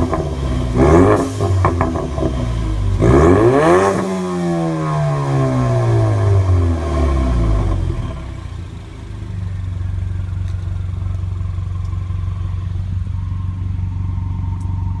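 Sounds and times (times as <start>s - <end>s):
car engine idling: 0.0s - 15.0s
car engine revving: 0.0s - 15.0s.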